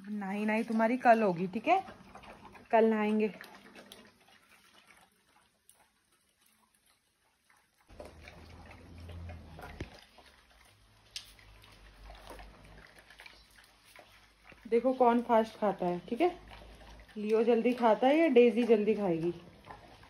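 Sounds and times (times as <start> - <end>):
dogs lapping and chewing: 0.0 - 20.0.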